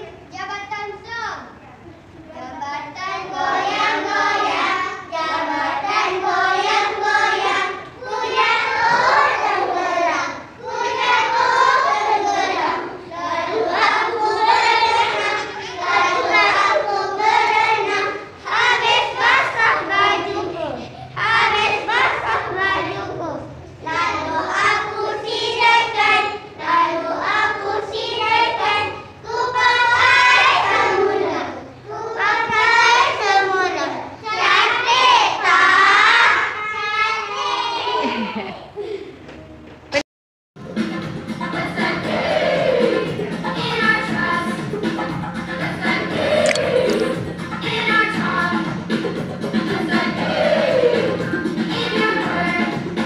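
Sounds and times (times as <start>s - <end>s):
children singing: 2.4s - 38.5s, 40.7s - 53.0s.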